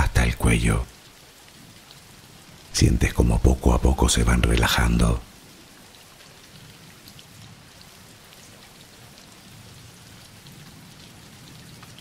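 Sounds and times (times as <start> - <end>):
rain hiss: 0.0 - 12.0.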